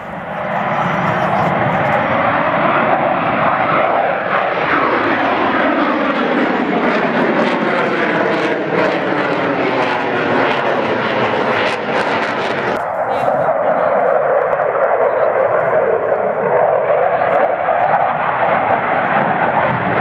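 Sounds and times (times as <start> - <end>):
jet flying overhead: 0.0 - 20.0.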